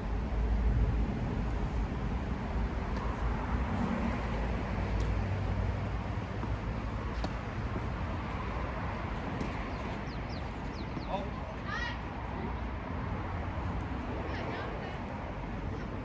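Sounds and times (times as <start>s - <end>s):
distant traffic rumble: 0.1s - 16.0s.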